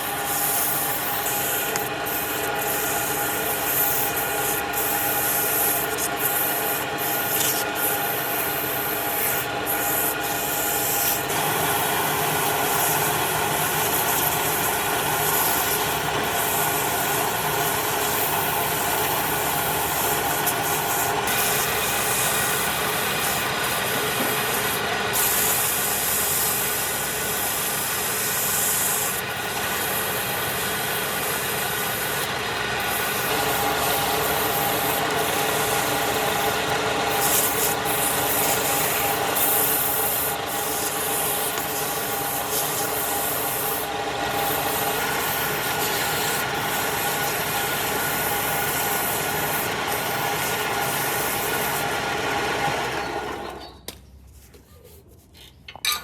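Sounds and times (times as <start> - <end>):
sandpaper rubbing spinning wood: 0.0 - 53.3
wood lathe motor hum: 0.0 - 53.8.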